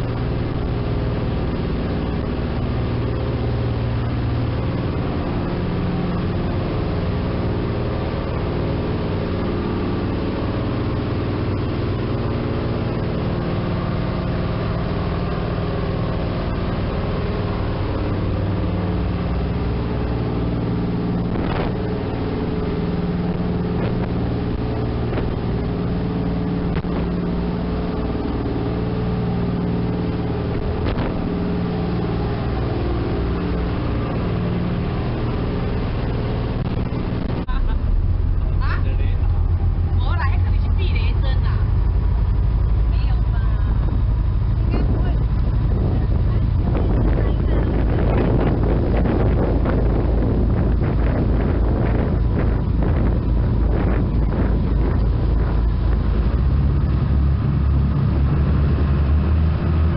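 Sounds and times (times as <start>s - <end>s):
boat engine hum: 0.0s - 59.9s
water rushing along hull: 0.0s - 59.9s.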